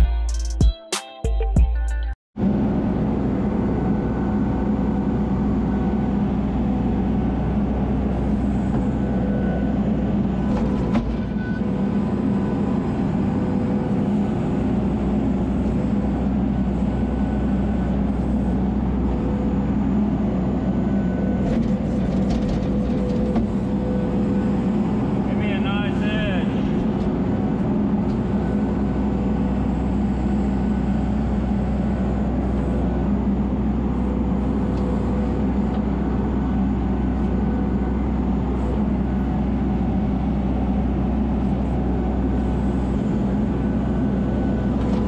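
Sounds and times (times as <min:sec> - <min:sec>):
diesel engine running: 0:02.4 - 0:45.0.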